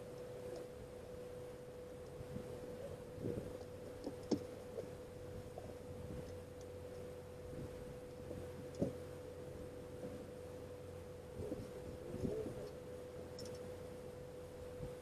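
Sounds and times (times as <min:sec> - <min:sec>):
steady single-pitched hum: 0:00.0 - 0:15.0.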